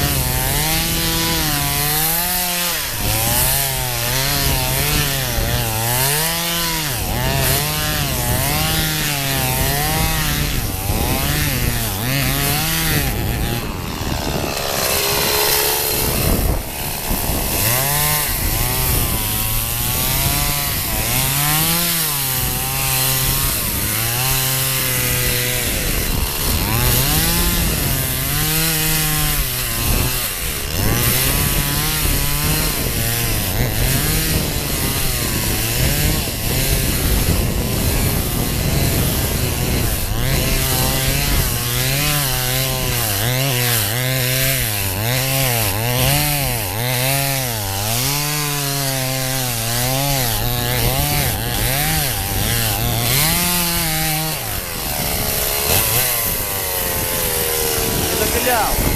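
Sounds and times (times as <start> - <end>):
chainsaw cutting through ice: 0.0 - 58.9.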